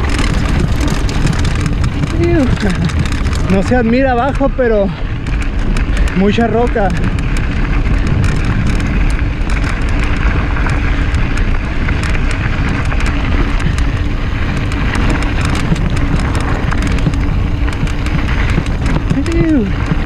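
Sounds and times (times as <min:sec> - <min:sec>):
mountain bike rattling on rocks: 0:00.0 - 0:20.0
tyre and bike clicks: 0:00.0 - 0:20.0
wind rushing over microphone: 0:00.0 - 0:20.0.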